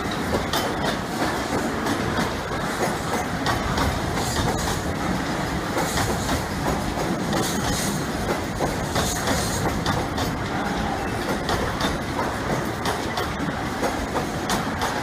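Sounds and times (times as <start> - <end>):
train rumbling past: 0.0 - 15.0
wheels clicking over rail joints: 0.0 - 15.0.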